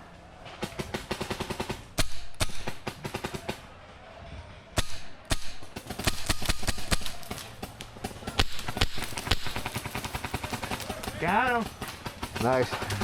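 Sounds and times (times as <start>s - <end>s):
paintball markers firing: 0.6s - 3.6s, 4.8s - 13.0s.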